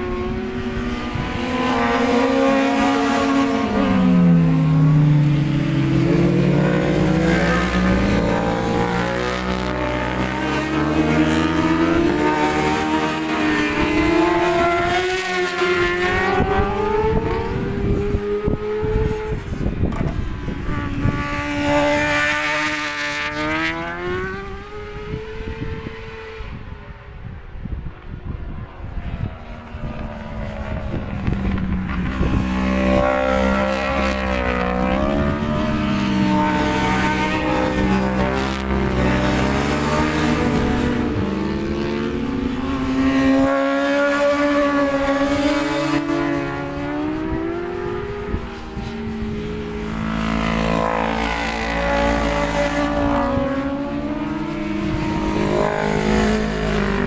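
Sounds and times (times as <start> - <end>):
racing motorcycle engine revving: 0.0 - 27.2, 29.1 - 57.0
wind buffeting microphone: 0.0 - 57.0.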